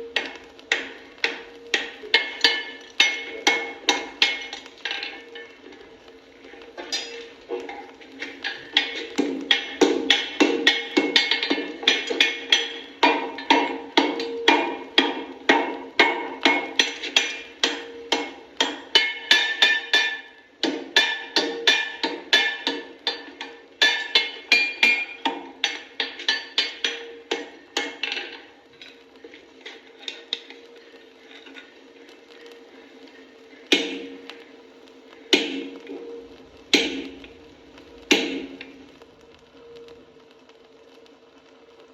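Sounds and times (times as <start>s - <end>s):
hammer striking iron on anvil: 0.1s - 5.7s, 6.5s - 30.6s, 33.7s - 34.4s, 35.3s - 38.8s.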